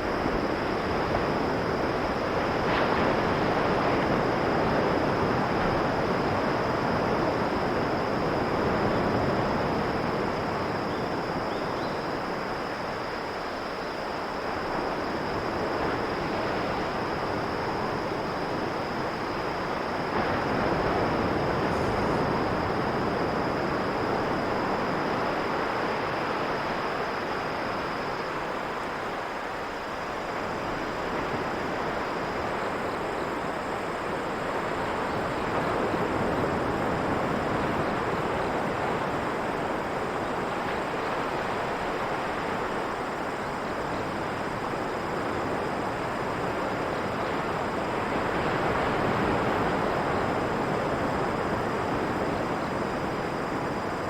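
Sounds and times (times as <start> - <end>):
insects chirring: 0.0 - 54.0
sea waves washing ashore: 0.0 - 54.0.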